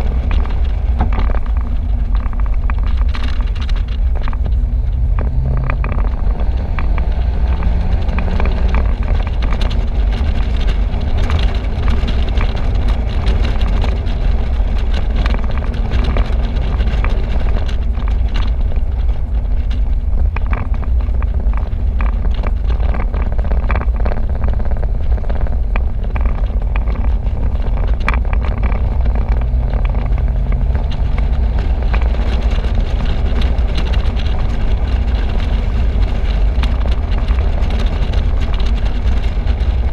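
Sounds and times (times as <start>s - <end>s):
engine and tyre rumble: 0.0s - 39.9s
wind buffeting microphone: 0.0s - 39.9s.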